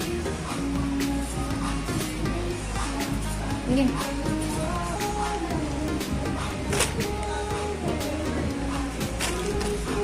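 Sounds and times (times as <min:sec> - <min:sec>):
music with held notes: 0:00.0 - 0:10.0.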